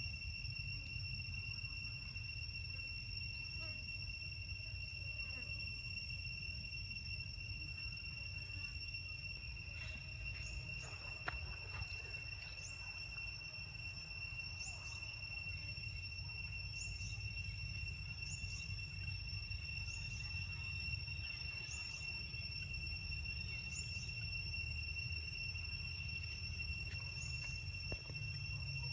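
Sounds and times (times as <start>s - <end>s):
high-pitched insect drone: 0.0s - 28.9s.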